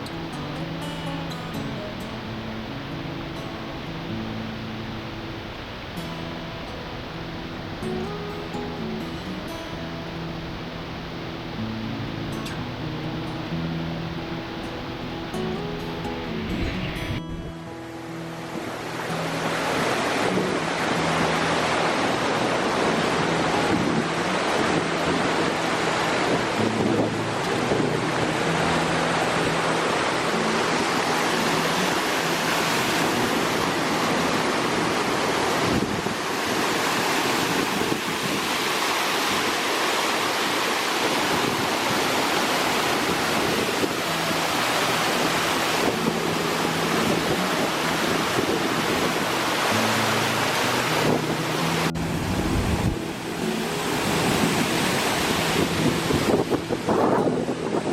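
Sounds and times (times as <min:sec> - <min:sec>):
waterfall rushing water: 0:00.0 - 0:57.9.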